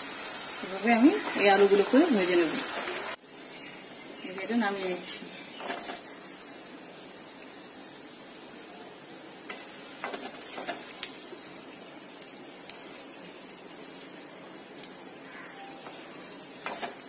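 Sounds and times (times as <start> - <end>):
potato deep-frying in oil: 0.0 - 17.0.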